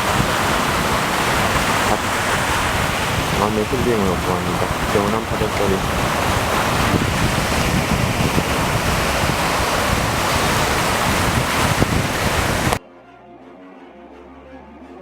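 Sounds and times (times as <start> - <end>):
surf washing onto beach: 0.0 - 12.8
wind buffeting microphone: 0.0 - 12.8.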